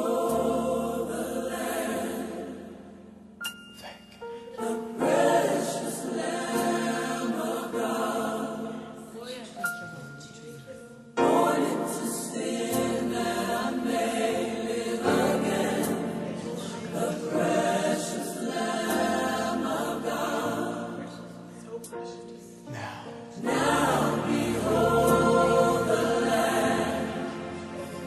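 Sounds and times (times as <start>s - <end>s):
background music with choir singing: 0.0s - 28.0s.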